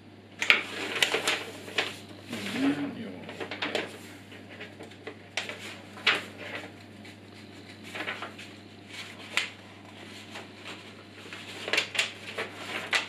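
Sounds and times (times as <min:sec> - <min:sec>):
low steady hum: 0:00.0 - 0:13.0
paper sheet rustling: 0:00.4 - 0:13.0.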